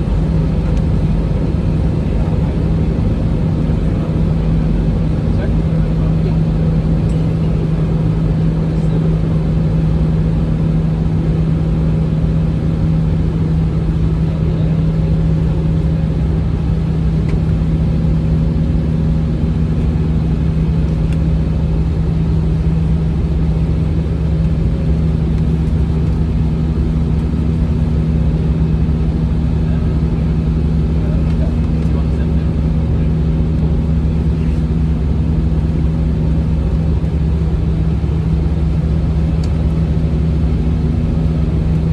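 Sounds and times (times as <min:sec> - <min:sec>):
jet engines droning: 0:00.0 - 0:41.9.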